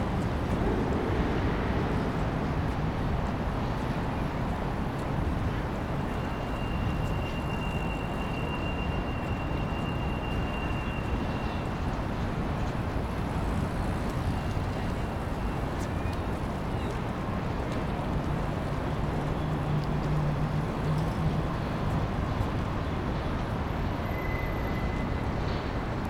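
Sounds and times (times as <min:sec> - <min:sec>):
freight train rumbling: 0:00.0 - 0:26.0.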